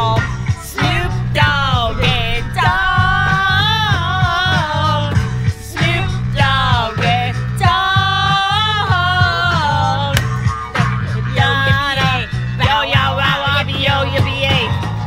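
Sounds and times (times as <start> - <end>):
singing voice with long notes: 0.0 - 14.3
steady bass beat: 0.0 - 14.4.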